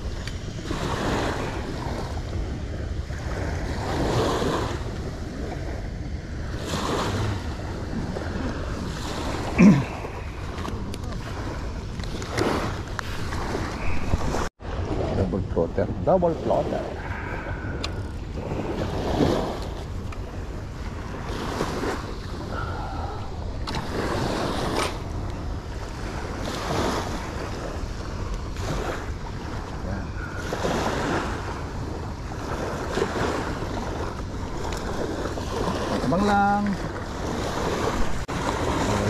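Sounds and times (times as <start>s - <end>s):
small waves washing on shore: 0.0s - 39.0s
wind rumbling on microphone: 0.0s - 39.0s.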